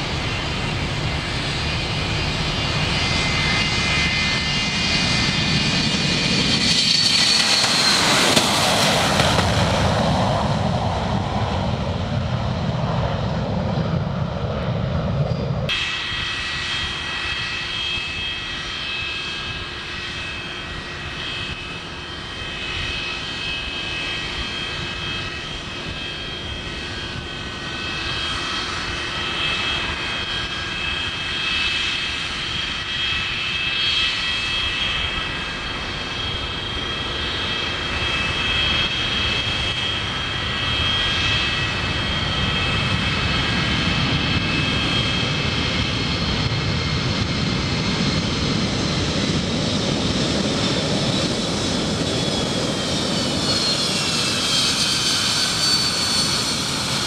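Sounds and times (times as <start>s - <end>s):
jet engines deep rumble: 0.0s - 57.0s
jet landing with whine tones: 0.0s - 57.0s.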